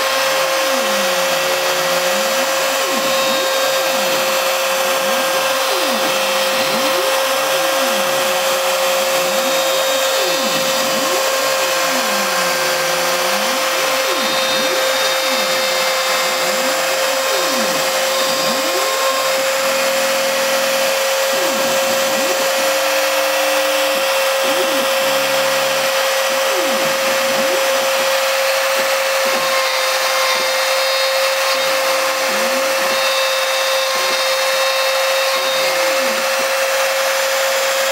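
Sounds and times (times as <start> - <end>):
motors sweeping in pitch: 0.0 - 37.9
router spindle whine: 0.0 - 37.9.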